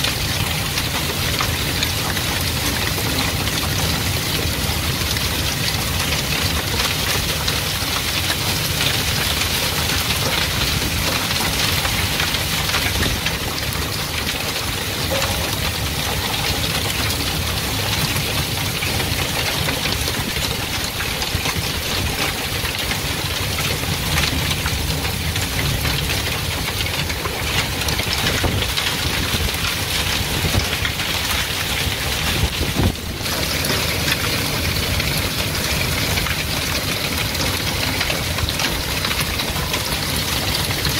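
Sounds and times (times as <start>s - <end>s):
hail and heavy rain pelting: 0.0s - 40.9s
runoff pouring off roof: 0.0s - 40.9s.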